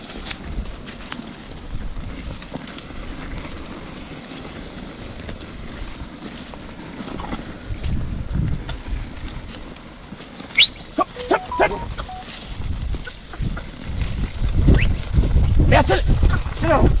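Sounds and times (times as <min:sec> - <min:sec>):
wind rumbling on microphone: 0:00.0 - 0:10.1, 0:12.5 - 0:17.0.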